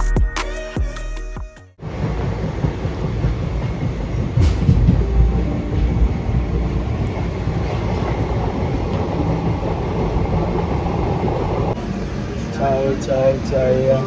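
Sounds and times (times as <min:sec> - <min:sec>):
train wheels rumbling on track: 0:01.8 - 0:14.0.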